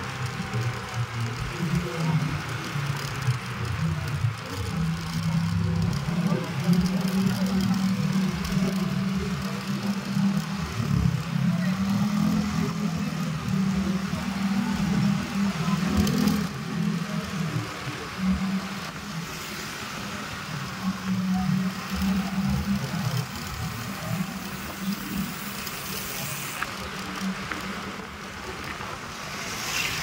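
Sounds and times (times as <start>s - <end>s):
road and wind noise: 0.0s - 30.0s
vehicle engine hum: 0.0s - 30.0s.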